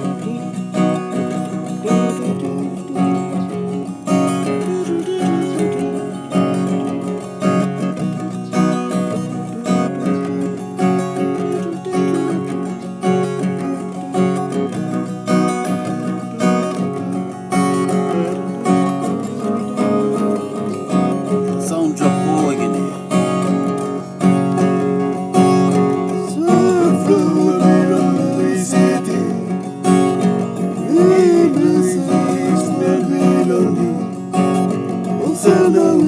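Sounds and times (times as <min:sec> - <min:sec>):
person singing: 0:00.0 - 0:36.0
strummed acoustic guitar: 0:00.0 - 0:36.0.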